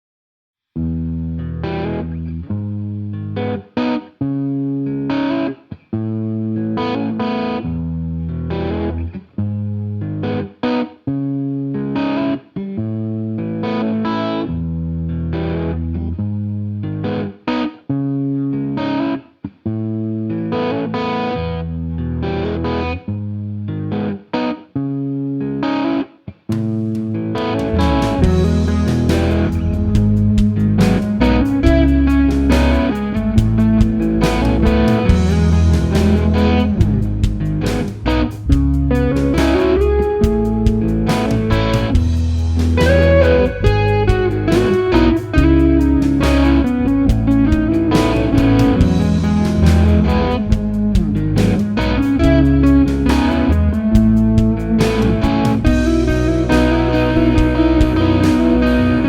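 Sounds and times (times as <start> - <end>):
distorted electric guitar chords: 0.8 - 19.2, 19.8 - 59.0.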